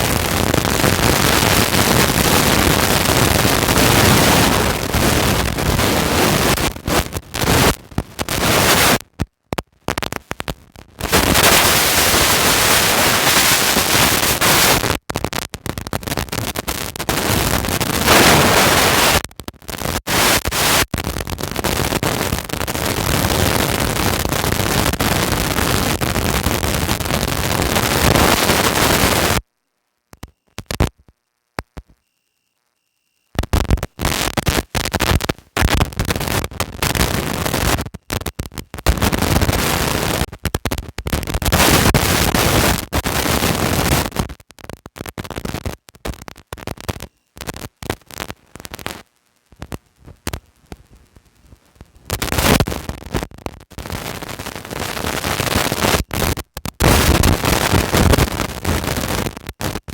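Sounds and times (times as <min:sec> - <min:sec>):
rushing crackling microphone noise: 0:00.0 - 0:29.4, 0:30.6 - 0:32.0, 0:33.4 - 0:59.9.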